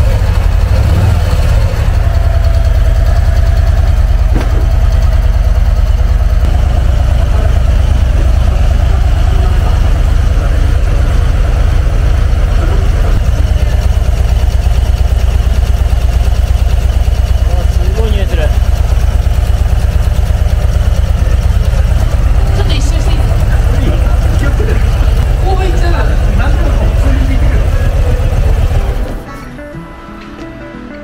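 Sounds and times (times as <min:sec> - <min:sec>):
motorcycle engine idling: 0:00.0 - 0:29.3.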